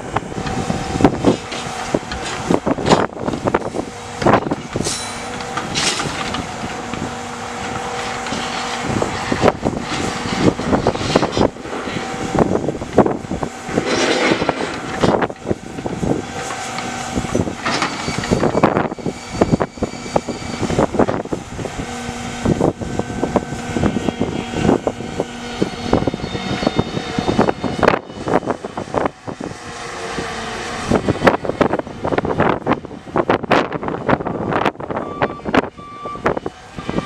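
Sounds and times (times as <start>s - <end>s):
truck engine under load: 0.0s - 37.0s
hydraulic tones: 0.3s - 37.0s
steel rails clanking: 0.4s - 37.0s.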